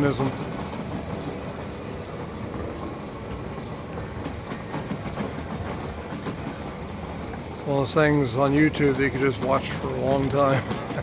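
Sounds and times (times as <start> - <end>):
gears turning rumble: 0.0 - 11.0.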